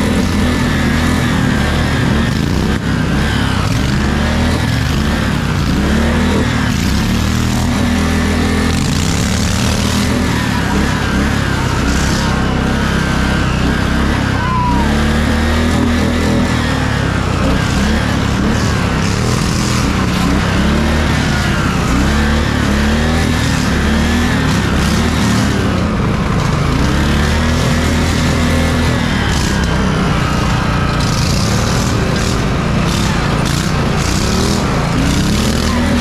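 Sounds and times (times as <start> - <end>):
riding lawn mower engine revving: 0.0 - 36.0.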